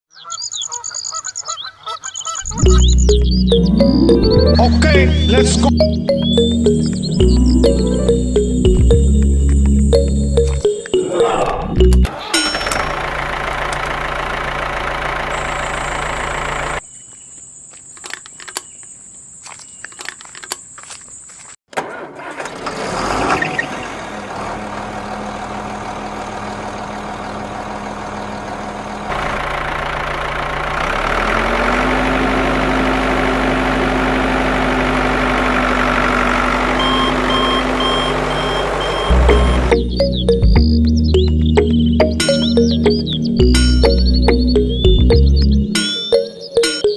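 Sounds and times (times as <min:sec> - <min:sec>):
engine humming: 0:02.0 - 0:16.8, 0:22.2 - 0:46.9.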